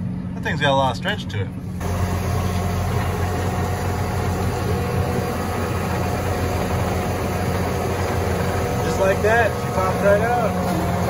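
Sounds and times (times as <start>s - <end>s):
tractor engine under load: 1.7s - 11.0s.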